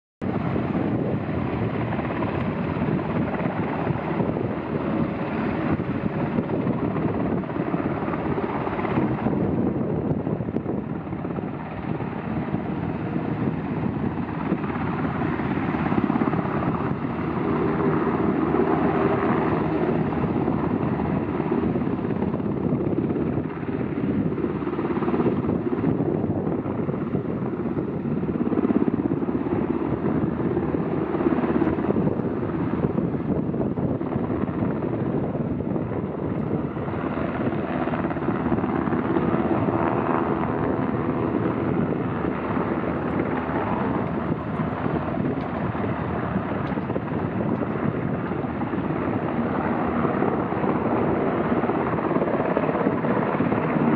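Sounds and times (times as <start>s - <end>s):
helicopter flying: 0.2s - 53.9s.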